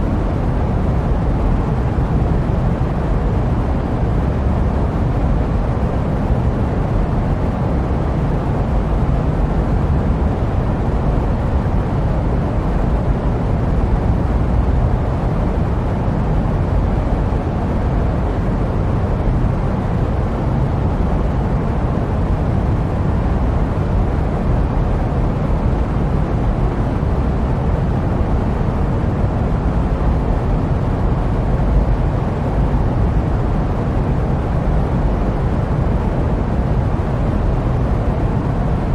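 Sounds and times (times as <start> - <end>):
jet airliner white noise: 0.0 - 38.9.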